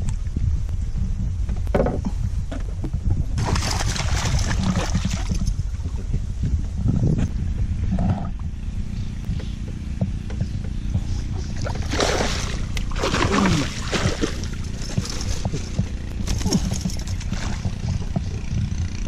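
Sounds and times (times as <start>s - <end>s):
boat motor rumbling: 0.0s - 19.0s.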